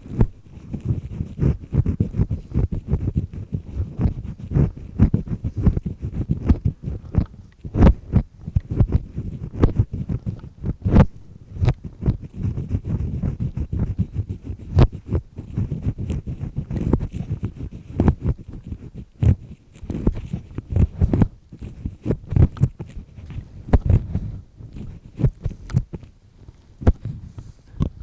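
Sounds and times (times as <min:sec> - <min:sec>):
earpick scraping inside ear: 0:00.0 - 0:28.0.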